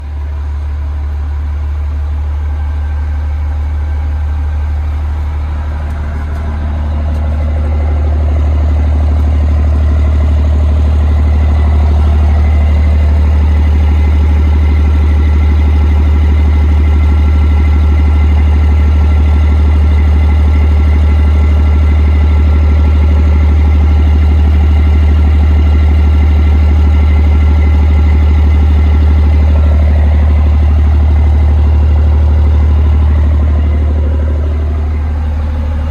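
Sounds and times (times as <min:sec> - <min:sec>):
diesel engine humming: 0:00.0 - 0:35.9.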